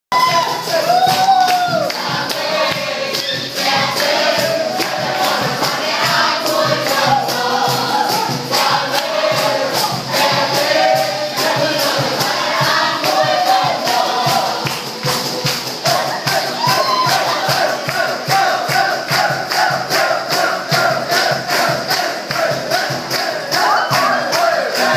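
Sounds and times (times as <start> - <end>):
steady percussive beat: 0.1 - 24.9
group of people singing: 0.2 - 24.9.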